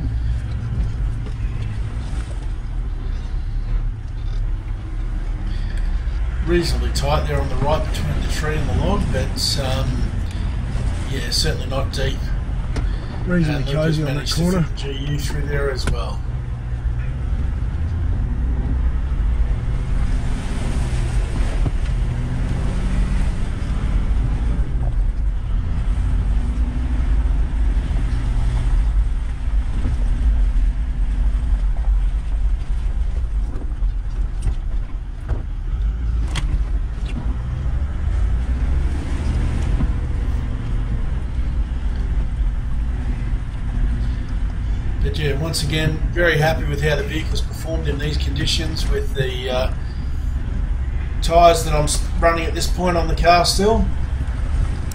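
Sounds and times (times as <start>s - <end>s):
off-road vehicle engine rumble: 0.0s - 54.9s.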